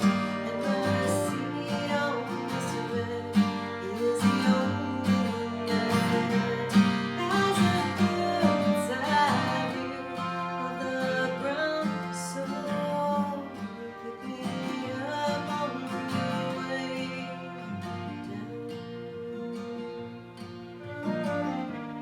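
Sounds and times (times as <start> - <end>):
person singing: 0.0 - 19.6
strummed acoustic guitar: 0.0 - 22.0.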